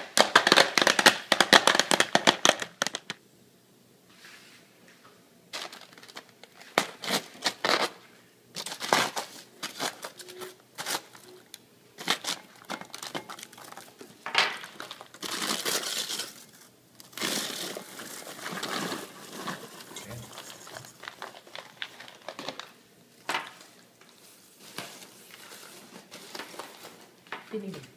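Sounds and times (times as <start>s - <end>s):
aluminium foil crinkling and tearing: 0.0s - 3.2s, 5.5s - 27.7s.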